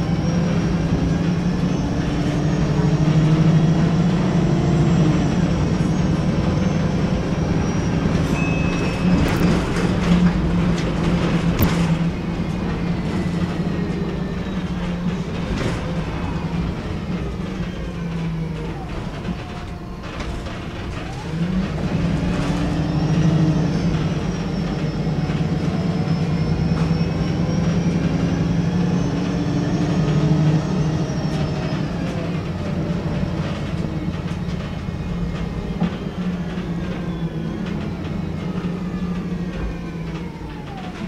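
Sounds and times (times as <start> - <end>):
bus engine droning: 0.0 - 41.0.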